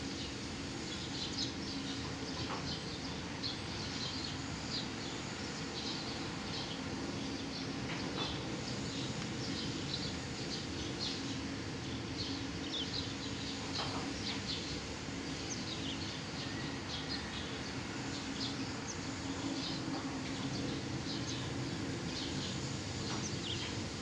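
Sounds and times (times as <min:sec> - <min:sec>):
low machinery hum: 0:00.0 - 0:24.0
birds chirping: 0:00.2 - 0:24.0.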